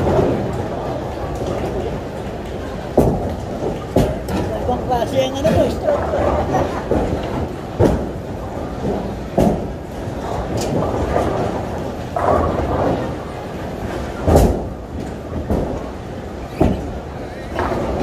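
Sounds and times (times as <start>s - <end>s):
bowling balls crashing into pins: 0.0s - 4.6s, 5.5s - 18.0s
bowling balls rolling on lanes: 0.0s - 18.0s.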